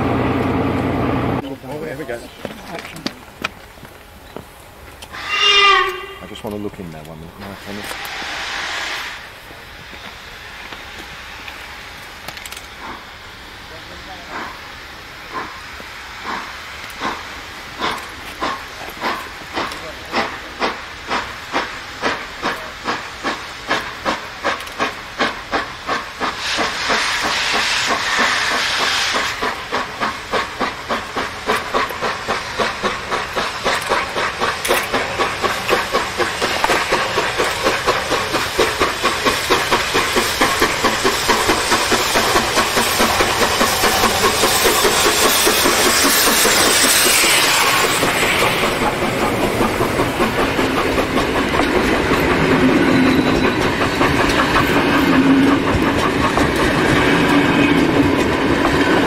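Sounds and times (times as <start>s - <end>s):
steam locomotive exhaust beats: 0.0s - 59.0s
steam hissing loudly: 4.7s - 59.0s.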